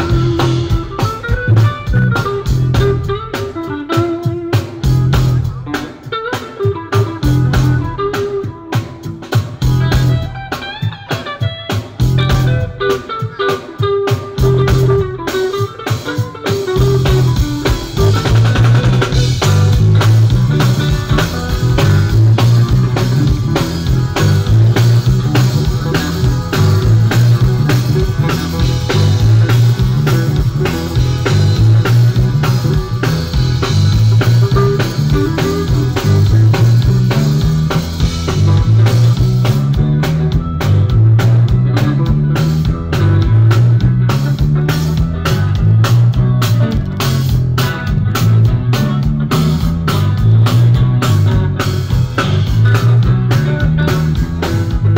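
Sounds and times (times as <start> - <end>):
heavy repeating bass line: 0.0 - 3.6, 4.6 - 5.7, 7.0 - 8.2, 9.6 - 10.4, 12.0 - 12.8, 14.4 - 15.4, 16.6 - 54.9
drum kit: 0.0 - 54.9
electric guitar: 0.0 - 54.9.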